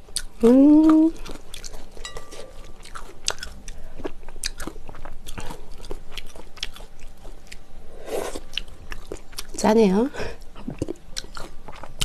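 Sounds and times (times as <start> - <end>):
person chewing: 0.0 - 9.6, 10.4 - 12.0.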